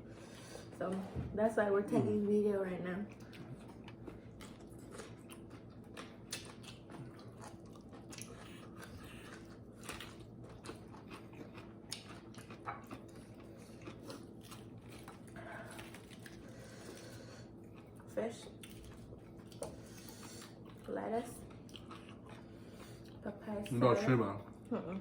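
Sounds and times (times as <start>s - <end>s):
people chewing food: 0.0s - 1.0s, 2.9s - 25.0s.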